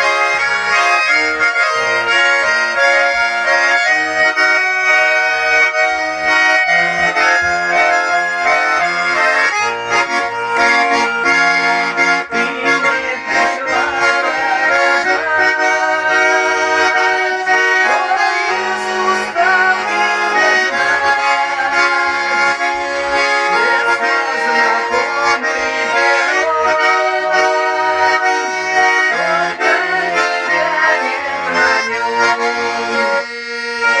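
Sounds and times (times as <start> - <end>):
button accordion playing: 0.0 - 34.0.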